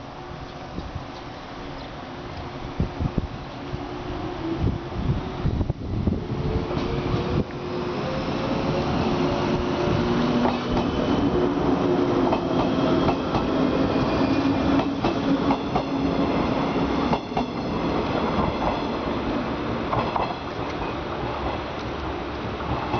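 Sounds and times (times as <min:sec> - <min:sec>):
train rumbling past: 0:00.0 - 0:22.9.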